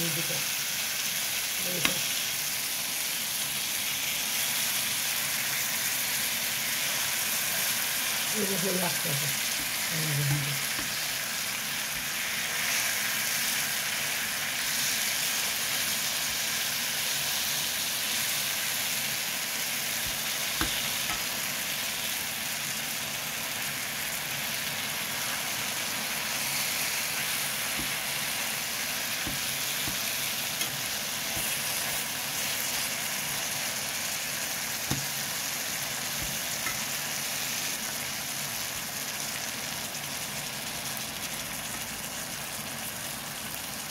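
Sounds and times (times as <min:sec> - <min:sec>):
tomatoes sizzling in oil: 0:00.0 - 0:43.9.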